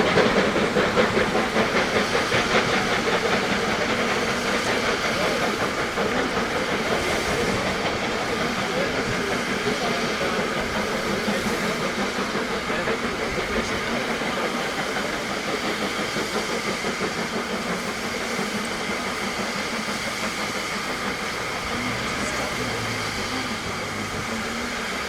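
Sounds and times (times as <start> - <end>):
steam train rumble and hiss: 0.0 - 25.0.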